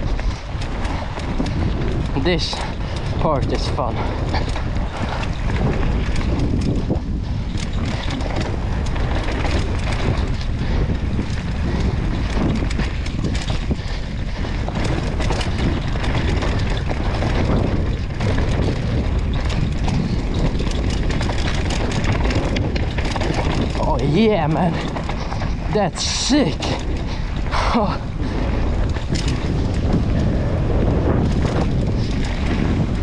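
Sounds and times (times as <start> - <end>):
bike rattling over rough ground: 0.0 - 33.0
rolling tyre noise: 0.0 - 33.0
wind buffeting microphone: 0.0 - 33.0.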